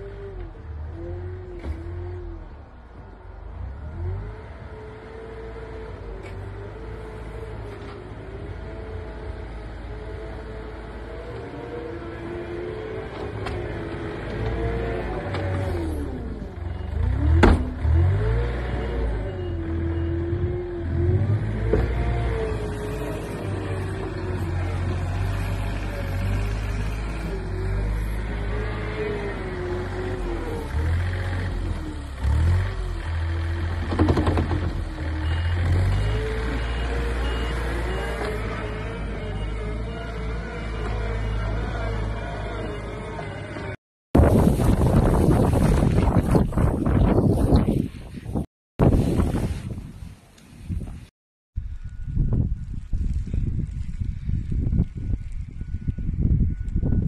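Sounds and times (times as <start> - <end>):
wheel loader diesel engine: 0.0 - 48.3.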